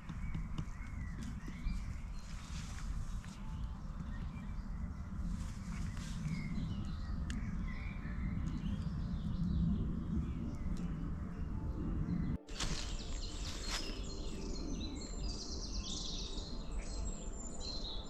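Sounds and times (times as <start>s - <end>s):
steady low rumble: 0.0s - 15.3s
birds chirping: 0.0s - 18.0s.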